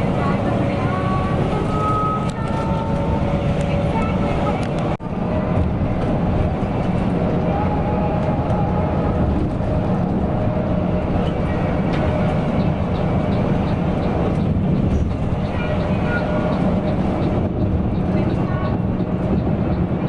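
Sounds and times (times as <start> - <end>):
bus engine drone: 0.0 - 20.0
road rumble: 0.0 - 20.0.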